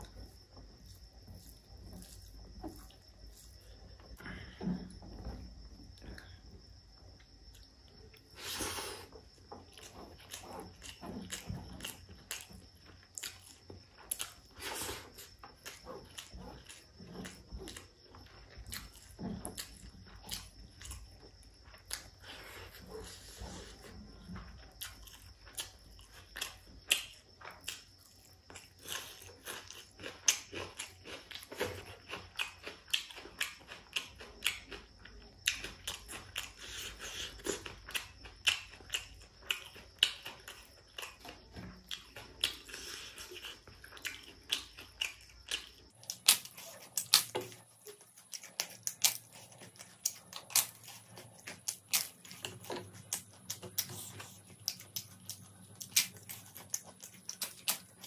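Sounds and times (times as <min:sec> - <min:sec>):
person chewing with mouth clicks: 0:07.2 - 0:58.0.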